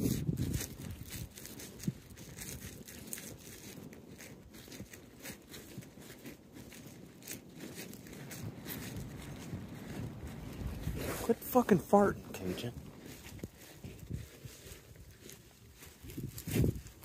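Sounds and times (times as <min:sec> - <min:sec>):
hooves crunching through snow: 0:00.0 - 0:17.0.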